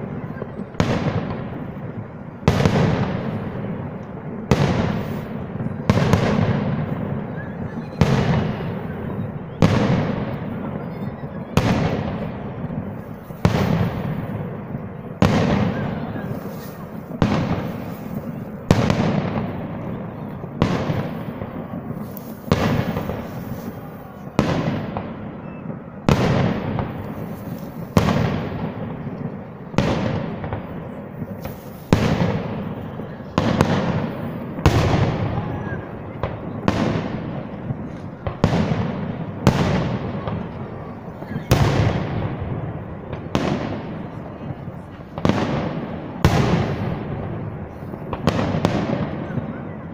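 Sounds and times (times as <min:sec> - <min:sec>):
fireworks bursting with rumble: 0:00.0 - 0:49.9.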